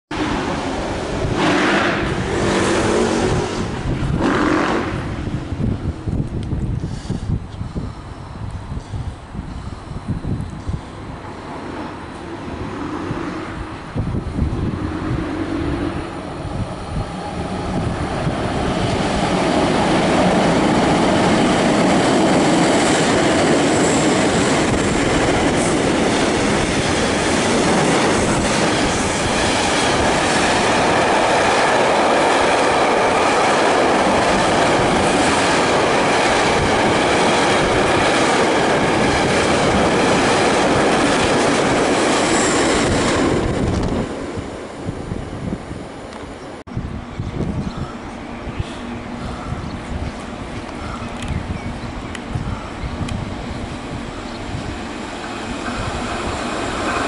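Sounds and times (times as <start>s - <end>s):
train wheels rumbling on rail: 0.1s - 57.0s.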